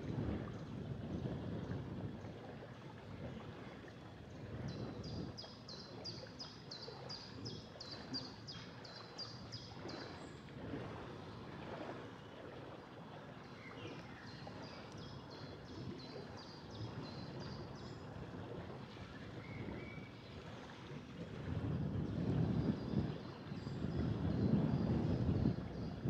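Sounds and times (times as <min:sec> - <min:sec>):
boat under way on water: 0:00.0 - 0:26.0.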